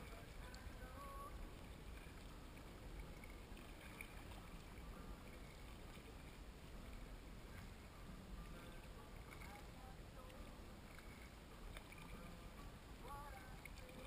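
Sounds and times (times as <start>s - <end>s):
kayak gliding on water: 0.0s - 14.0s
low steady rumble: 0.0s - 14.0s.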